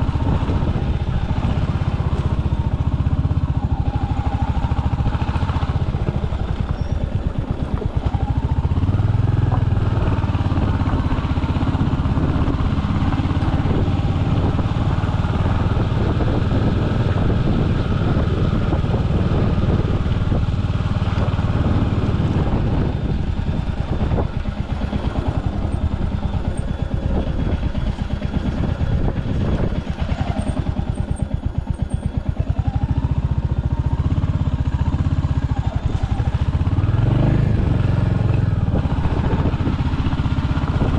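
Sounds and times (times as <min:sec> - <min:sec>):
motorcycle engine pulsing: 0:00.0 - 0:40.9.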